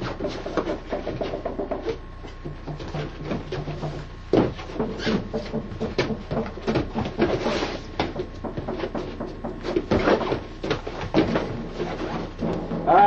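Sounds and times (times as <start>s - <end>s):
thumps on padded mats: 2.4s - 13.0s.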